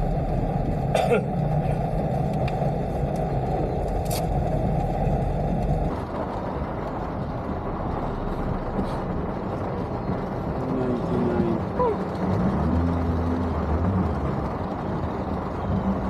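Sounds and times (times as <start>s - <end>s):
car engine: 0.0s - 16.0s
road noise: 0.0s - 16.0s.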